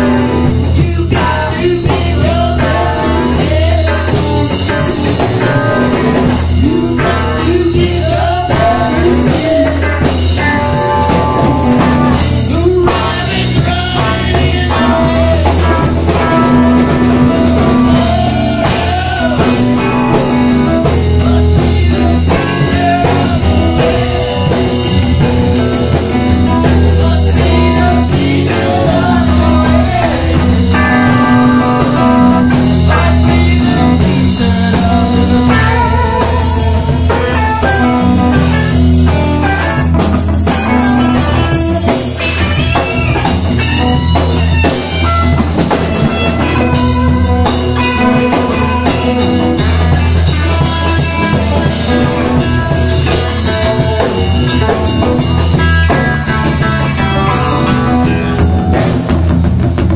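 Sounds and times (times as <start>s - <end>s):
man singing: 0.0s - 58.8s
live blues-rock band playing: 0.0s - 59.9s.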